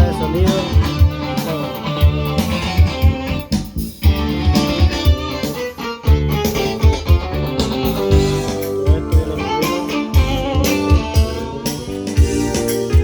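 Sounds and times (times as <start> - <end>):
synthesizer song over steady beat: 0.0 - 13.0.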